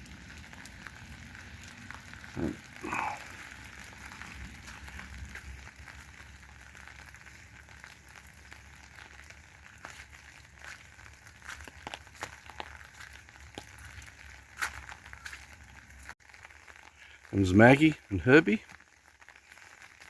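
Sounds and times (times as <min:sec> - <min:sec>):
faint crackling: 0:00.0 - 0:20.0.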